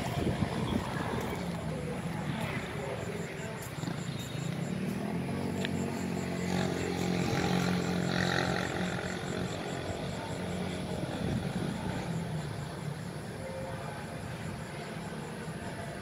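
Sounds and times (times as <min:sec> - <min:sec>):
engine drone: 0:00.0 - 0:14.5.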